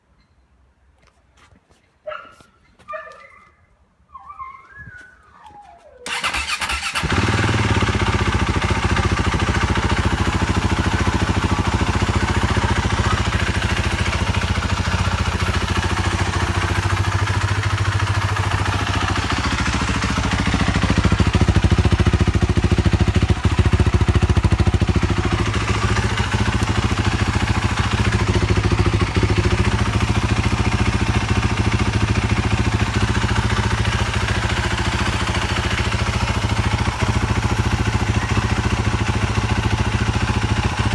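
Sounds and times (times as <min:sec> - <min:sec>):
motorcycle engine idling: 0:06.1 - 0:40.9.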